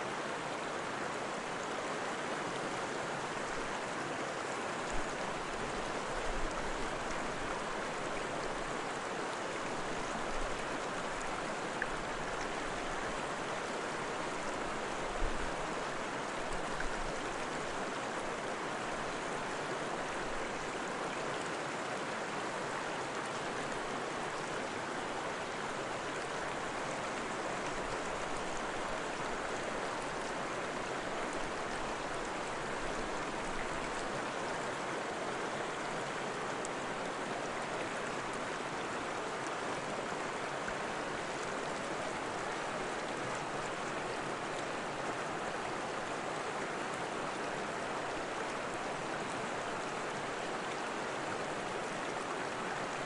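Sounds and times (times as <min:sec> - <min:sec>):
flowing water rushing: 0:00.0 - 0:53.0.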